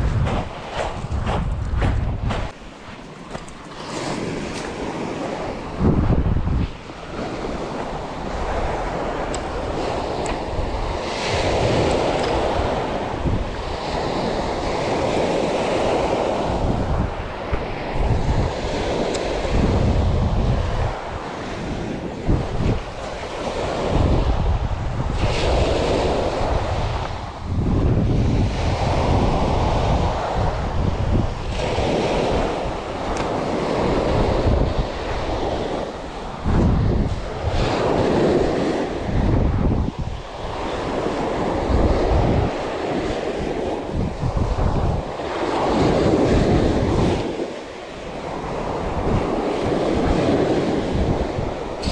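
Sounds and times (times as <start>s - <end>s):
surf washing up gravelly beach: 0.0s - 51.9s
wind buffeting microphone: 0.0s - 51.9s.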